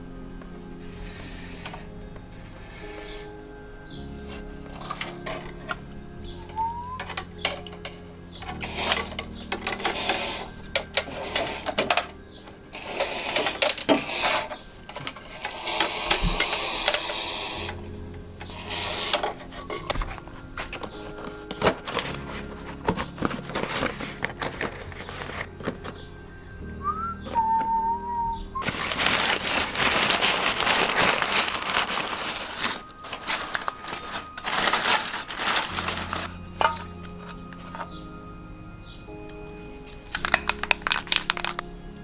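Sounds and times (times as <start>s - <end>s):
background music with held notes: 0.0s - 42.0s.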